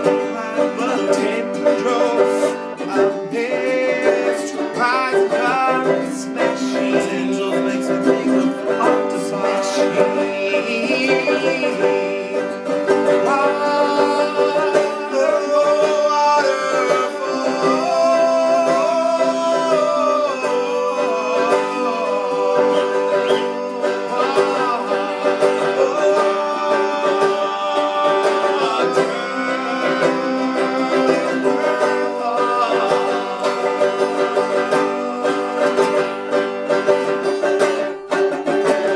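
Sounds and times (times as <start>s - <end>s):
plucked string instrument music: 0.0s - 38.9s.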